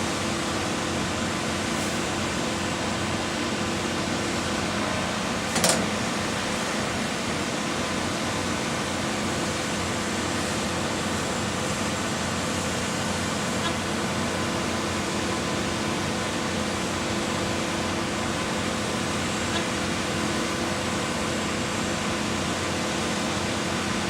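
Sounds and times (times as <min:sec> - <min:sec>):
concrete pump engine running: 0:00.0 - 0:24.0.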